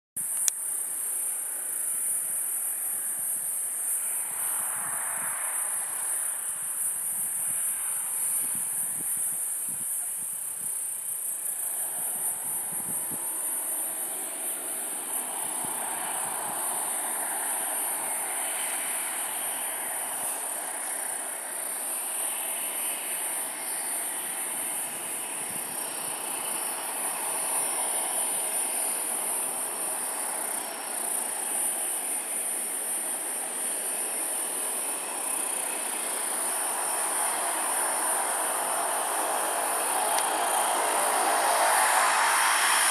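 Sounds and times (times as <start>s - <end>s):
high insect buzz: 0.2s - 42.9s
light aircraft engine drone: 0.2s - 42.9s.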